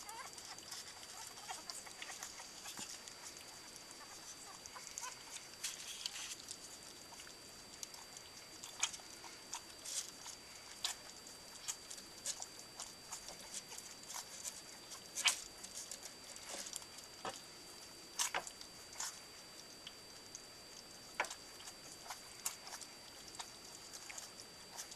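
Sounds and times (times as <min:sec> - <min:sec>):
puppies lapping and smacking food: 0:00.0 - 0:24.9.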